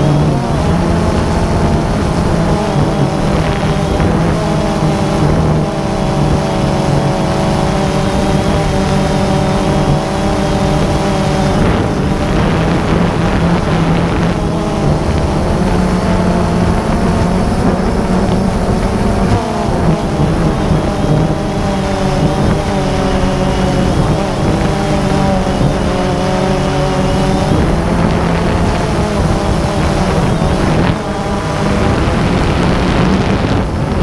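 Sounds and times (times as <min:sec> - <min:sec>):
drone motors buzzing: 0:00.0 - 0:34.0.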